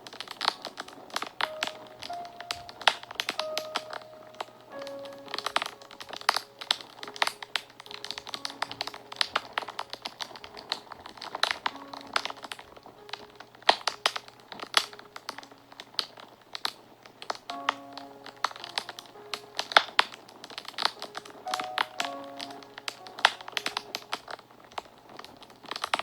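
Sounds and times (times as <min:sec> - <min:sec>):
soft background music: 0:00.0 - 0:26.0
wood fire crackling and popping: 0:00.0 - 0:26.0.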